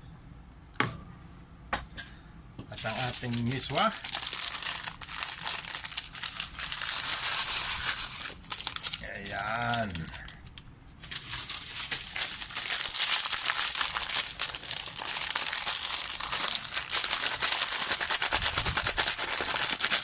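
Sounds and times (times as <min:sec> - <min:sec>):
plastic packaging crinkling: 0:02.8 - 0:20.0.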